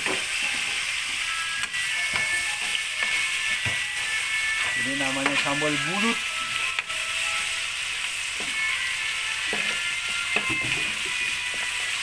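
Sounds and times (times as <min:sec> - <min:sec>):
spatula scraping a pan: 0:00.0 - 0:07.6, 0:08.4 - 0:12.0
food sizzling in hot oil: 0:00.0 - 0:12.0.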